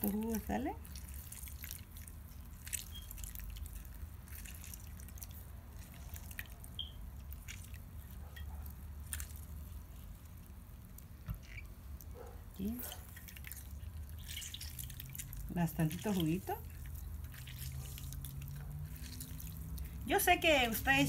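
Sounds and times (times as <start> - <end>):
juice dripping into plate: 0.0 - 21.0
wet squishes of squeezed orange: 0.0 - 21.0.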